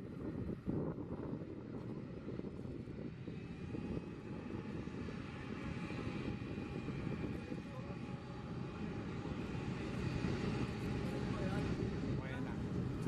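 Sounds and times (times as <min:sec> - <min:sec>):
faint high engine whine: 0:00.0 - 0:13.0
jet engines rumbling: 0:00.0 - 0:13.0.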